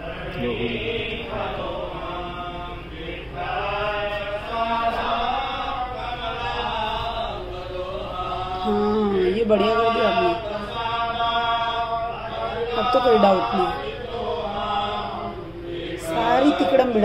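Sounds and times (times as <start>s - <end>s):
devotional chanting: 0.0s - 17.0s.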